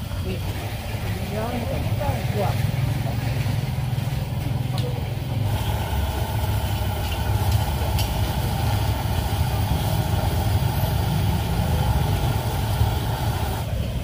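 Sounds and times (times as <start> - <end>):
wire skimmer stirring: 0.0 - 13.6
crackers deep-frying in oil: 0.0 - 14.0.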